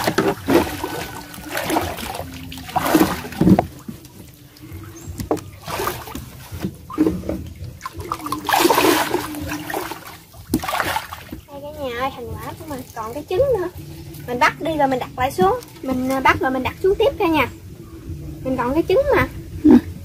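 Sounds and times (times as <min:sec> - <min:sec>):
water sloshing around legs: 0:00.0 - 0:16.9.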